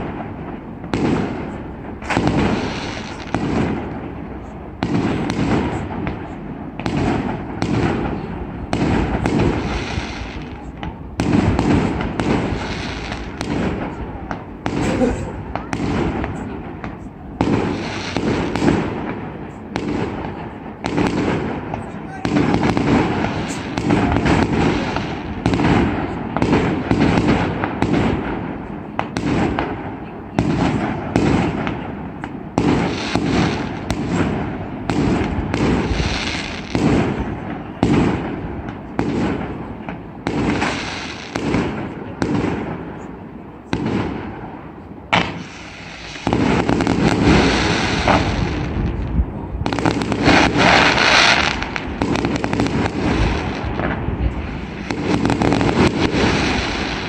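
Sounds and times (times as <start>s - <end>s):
fireworks exploding: 0.0s - 57.0s.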